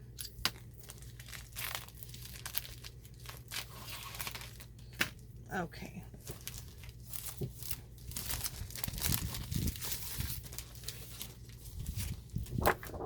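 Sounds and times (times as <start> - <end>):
plastic wrapping crinkling and tearing: 0.2 - 5.4, 6.1 - 13.0.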